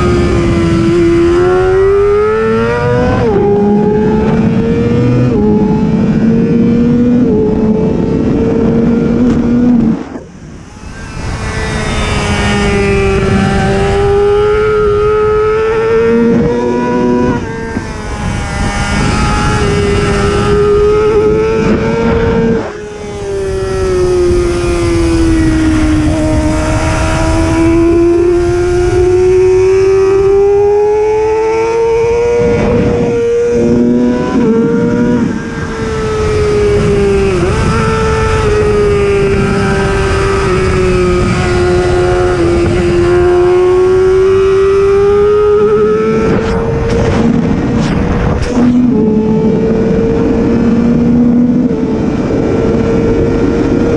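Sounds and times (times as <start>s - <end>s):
motorcycle engine at high revs: 0.0s - 53.9s
wind noise: 0.0s - 53.9s.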